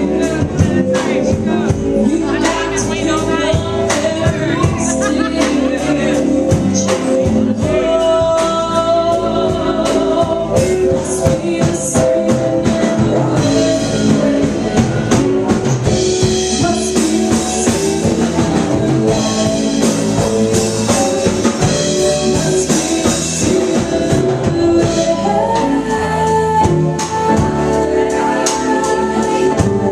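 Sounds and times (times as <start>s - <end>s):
person singing: 0.0s - 29.9s
rock band playing: 0.0s - 29.9s.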